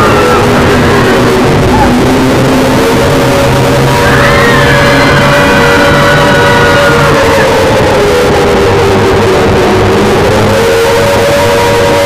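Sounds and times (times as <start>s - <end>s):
distorted alert alarm tones: 0.0s - 12.0s.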